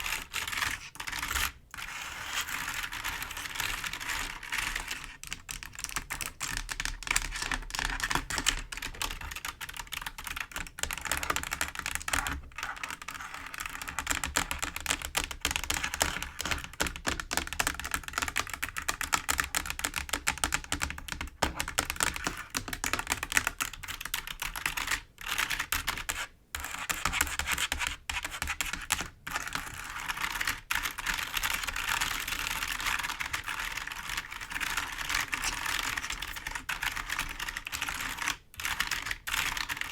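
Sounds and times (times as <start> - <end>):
typing on keyboard: 2.7 - 39.9.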